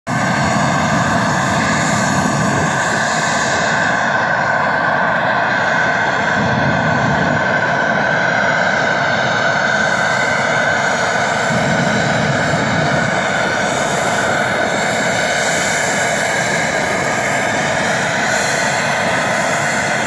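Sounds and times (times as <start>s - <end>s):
loud steady white noise: 0.1s - 20.0s.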